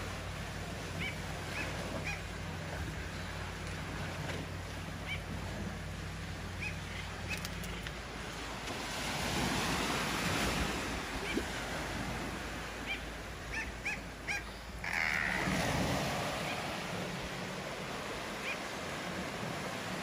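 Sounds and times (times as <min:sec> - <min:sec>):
sea surf on rocky shore: 0:00.0 - 0:20.0.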